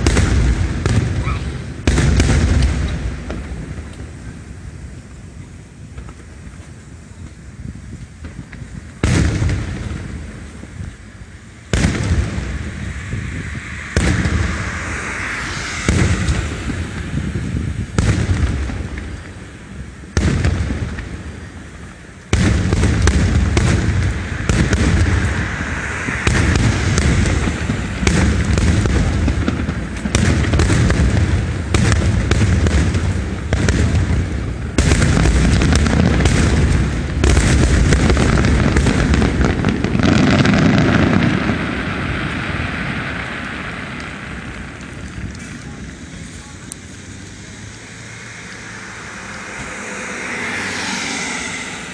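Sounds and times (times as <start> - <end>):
firework shells booming: 0.0 - 5.2, 8.0 - 47.6
fireworks barrage with crackling: 0.0 - 51.9.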